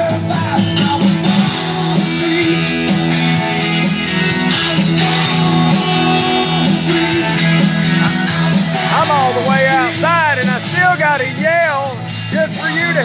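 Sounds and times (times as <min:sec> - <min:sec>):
loud rock music with guitar: 0:00.0 - 0:13.0.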